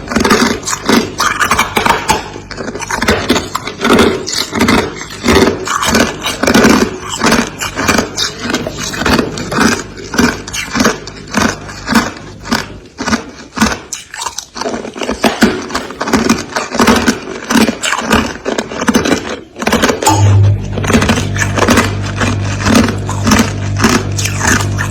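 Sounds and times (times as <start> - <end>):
steady low hum: 0.0 - 17.8, 19.9 - 24.9
freezer frost crunching: 0.0 - 24.9.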